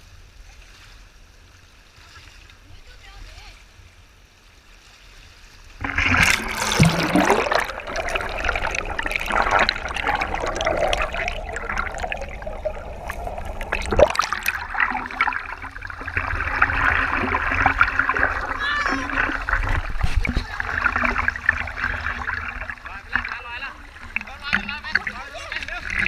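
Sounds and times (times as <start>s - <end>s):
water splashing: 5.0s - 26.0s.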